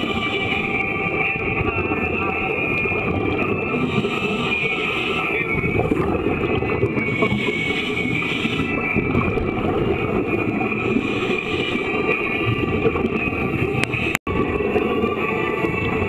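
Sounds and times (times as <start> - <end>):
underwater rumble and hiss: 0.0 - 16.0.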